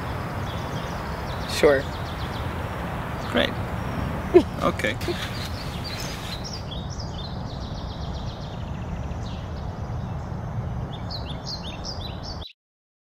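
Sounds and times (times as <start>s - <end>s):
low background rumble: 0.0s - 11.1s
small birds chirping: 0.0s - 12.5s.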